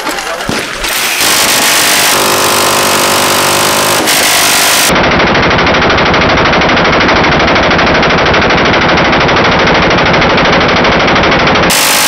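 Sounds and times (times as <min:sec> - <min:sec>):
minigun firing: 0:00.5 - 0:12.0.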